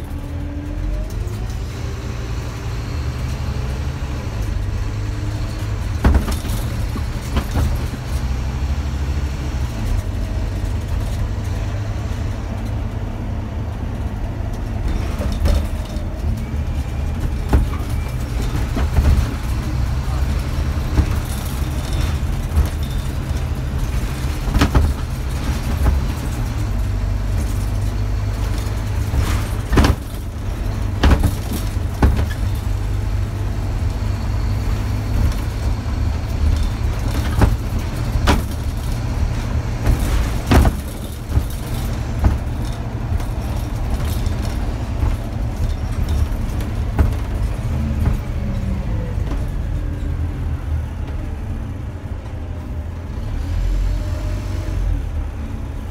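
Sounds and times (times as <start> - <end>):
bus body knocks and rattles: 0.0 - 53.2
bus diesel engine drone: 0.0 - 55.9.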